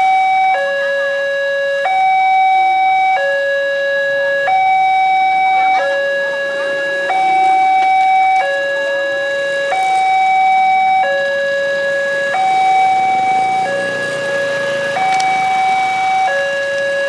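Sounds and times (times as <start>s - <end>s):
two-tone crossing alarm: 0.0s - 17.0s.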